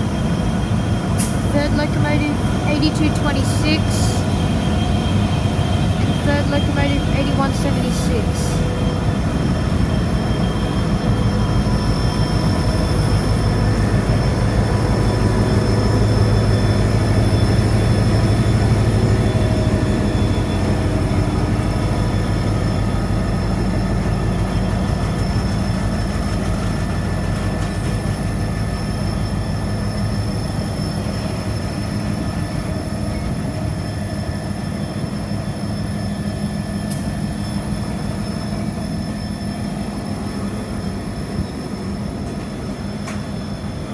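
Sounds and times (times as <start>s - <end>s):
freight train rumbling past: 0.0s - 43.9s
wheels squealing on rail: 0.0s - 43.9s.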